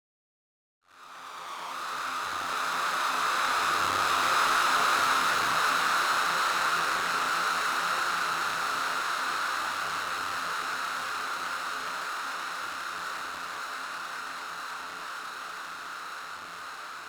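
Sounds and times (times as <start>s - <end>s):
synthesized steady hiss: 0.9s - 17.0s.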